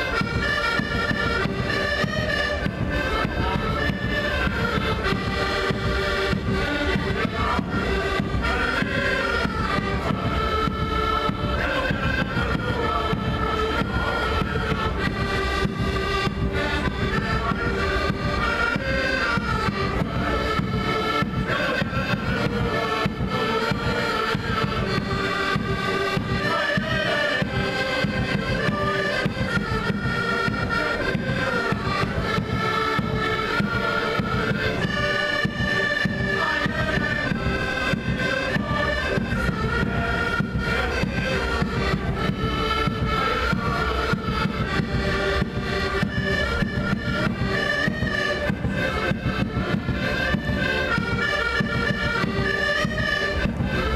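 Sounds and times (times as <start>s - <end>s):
folk band with accordions: 0.0s - 53.9s.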